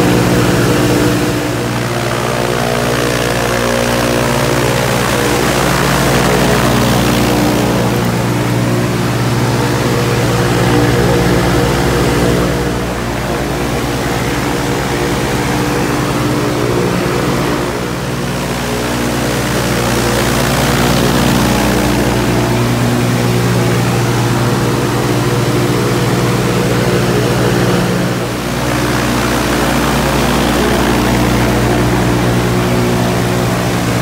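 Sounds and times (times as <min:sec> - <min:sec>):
aircraft engine and propeller running: 0:00.0 - 0:34.0.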